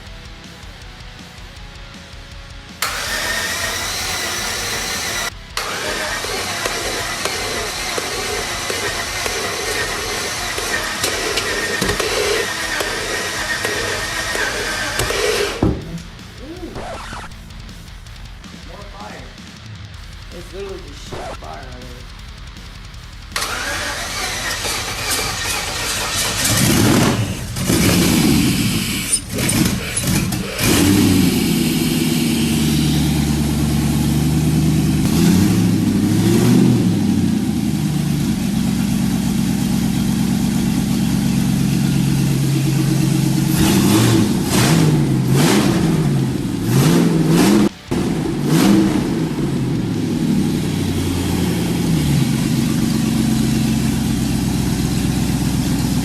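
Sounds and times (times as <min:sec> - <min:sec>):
car engine idling and revving: 0:00.0 - 0:20.2, 0:21.1 - 0:56.0.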